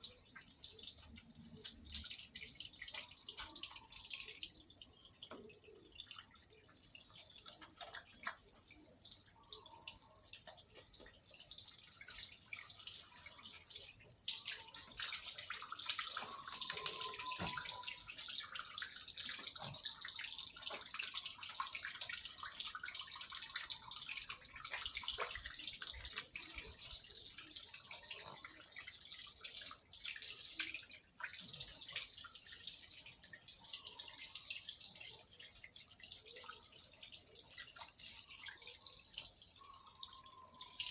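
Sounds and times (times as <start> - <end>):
water drips: 0.0 - 40.9.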